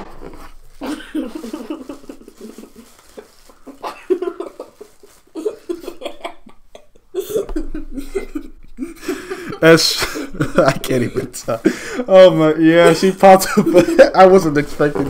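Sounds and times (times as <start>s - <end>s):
man giggling: 0.8s - 14.4s.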